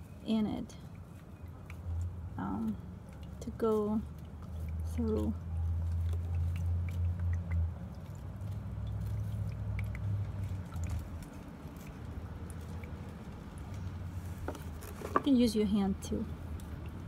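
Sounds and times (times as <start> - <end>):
stick stirring wet clay: 0.7 - 15.4.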